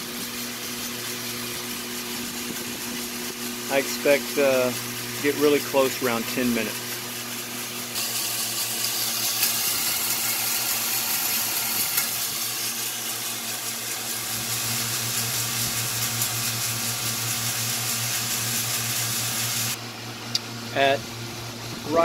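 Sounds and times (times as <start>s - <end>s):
heat gun blowing: 0.0s - 19.8s
drill turning drum roaster: 0.0s - 22.0s.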